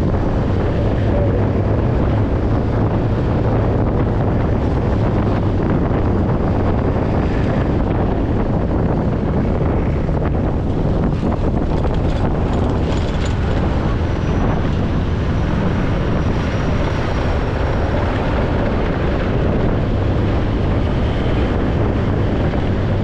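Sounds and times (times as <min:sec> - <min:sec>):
motorcycle engine cruising: 0:00.0 - 0:23.0
wind buffeting microphone: 0:00.0 - 0:23.0.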